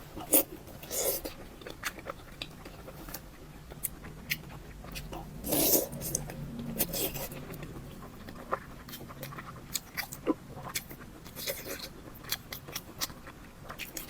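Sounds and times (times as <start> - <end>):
chewing with wet mouth clicks: 0.2 - 14.0.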